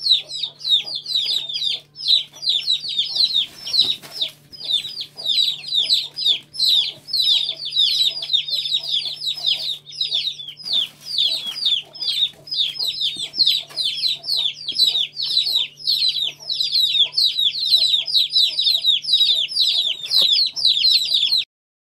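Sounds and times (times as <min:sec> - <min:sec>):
chicks peeping: 0:00.0 - 0:21.5.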